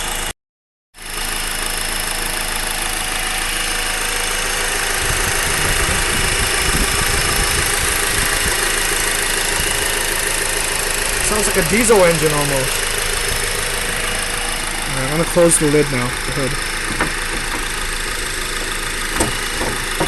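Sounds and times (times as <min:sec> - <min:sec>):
car engine idling clattery: 0:01.0 - 0:20.0.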